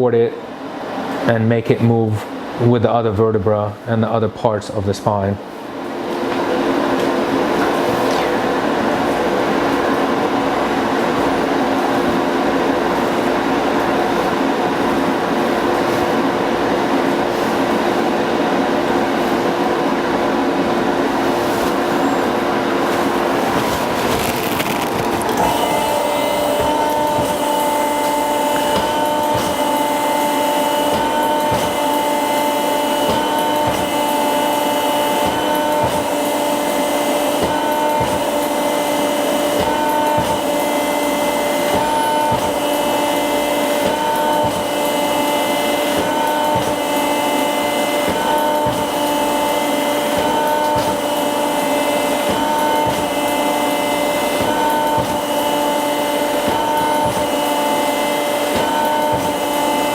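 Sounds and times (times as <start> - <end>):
table motor humming: 6.2 - 59.9.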